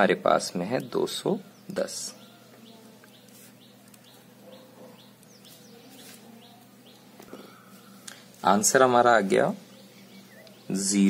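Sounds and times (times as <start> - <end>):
bird chirping: 0.7 - 11.0.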